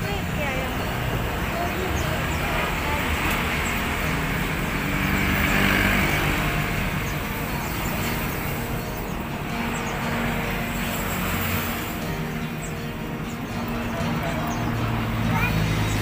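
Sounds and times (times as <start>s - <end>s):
caged birds chirping: 0.0s - 16.0s
road traffic noise: 0.0s - 16.0s
vehicle passing: 0.0s - 16.0s.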